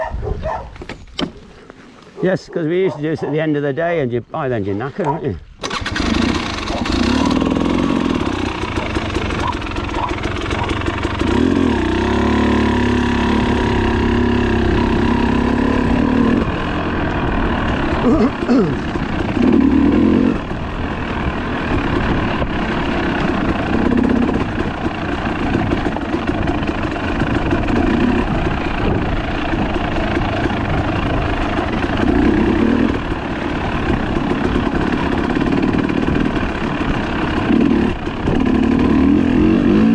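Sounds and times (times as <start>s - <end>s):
motorcycle engine revving: 5.6s - 39.9s.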